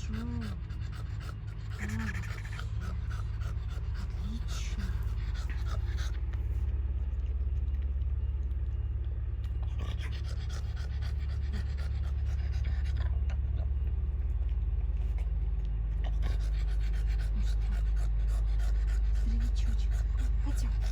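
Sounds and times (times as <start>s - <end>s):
dog panting: 0.0s - 8.6s, 9.4s - 20.9s.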